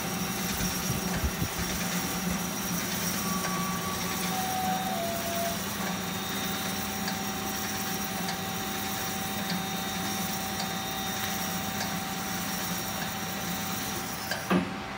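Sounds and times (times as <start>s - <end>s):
bandsaw machine hum: 0.0s - 14.9s.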